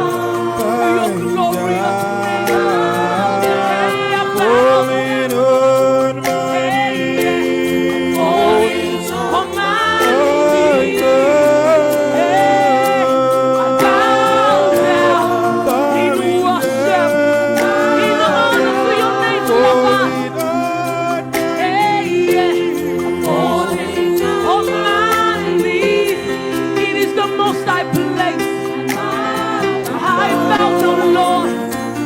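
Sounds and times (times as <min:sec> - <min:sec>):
group singing slow worship song: 0:00.0 - 0:32.0.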